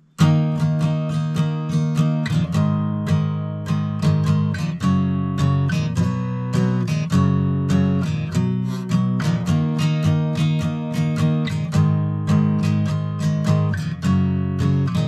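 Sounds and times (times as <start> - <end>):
guitar chords strummed: 0.0 - 15.0.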